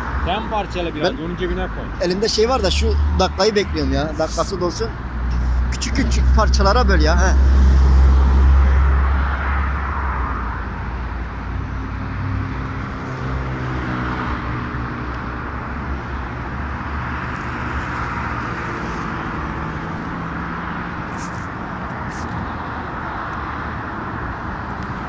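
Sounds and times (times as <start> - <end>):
vehicles passing: 0.0 - 25.0.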